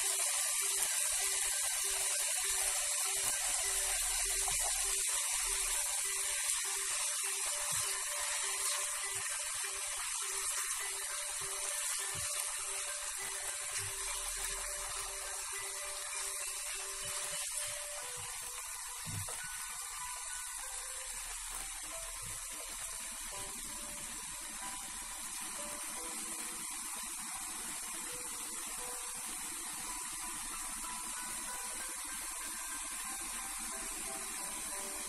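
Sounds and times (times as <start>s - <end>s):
food sizzling in frying pan: 0.0s - 35.0s.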